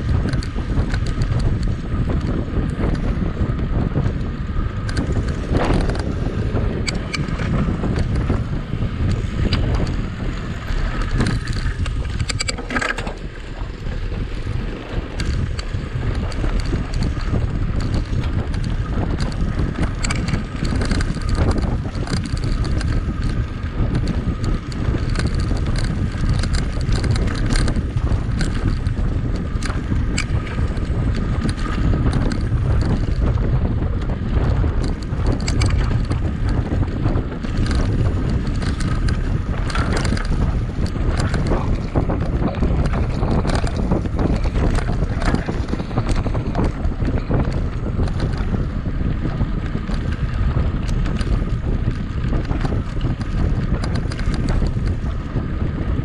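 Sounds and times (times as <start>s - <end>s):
bike rattling and clicking: 0.0s - 56.0s
wind rushing over microphone: 0.0s - 56.0s.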